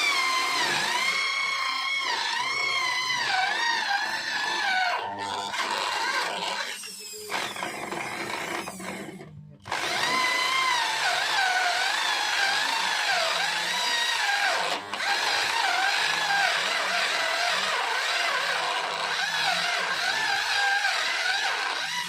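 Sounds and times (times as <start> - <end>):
power tool cutting wood: 0.0 - 22.0.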